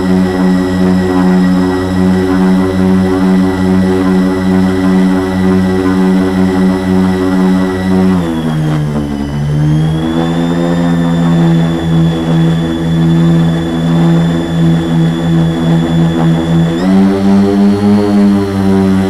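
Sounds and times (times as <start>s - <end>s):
drone motors buzzing with high whine: 0.0s - 19.0s.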